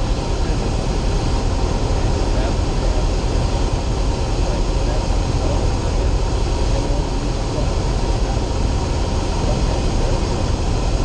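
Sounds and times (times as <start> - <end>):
airplane engine drone: 0.0 - 11.0.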